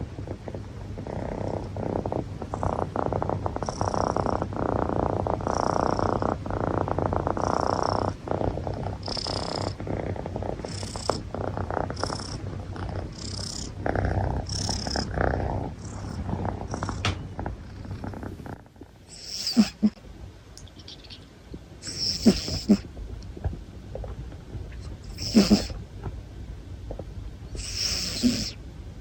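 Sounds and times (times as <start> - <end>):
cat purring: 0.0 - 20.0, 21.8 - 25.8, 26.8 - 28.6.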